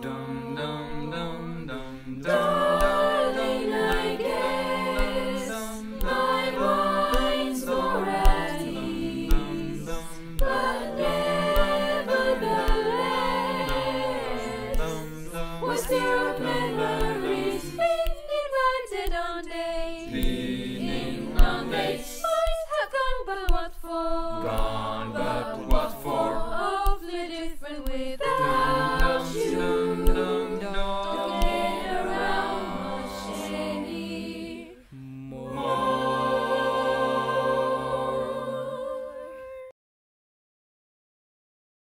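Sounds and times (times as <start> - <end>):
choir singing a cappella: 0.0 - 39.7.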